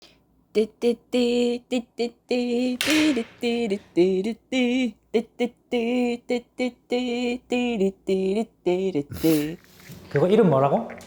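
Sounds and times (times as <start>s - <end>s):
person singing a simple tune: 0.5s - 9.7s.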